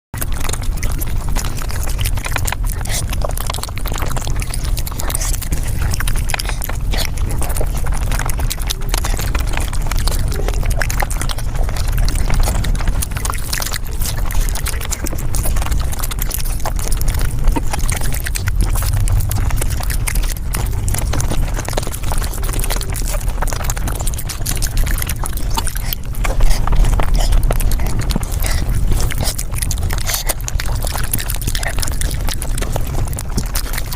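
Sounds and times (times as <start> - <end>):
sped-up chewing and slurping: 0.2 - 33.9
steady low rumble: 0.2 - 33.9.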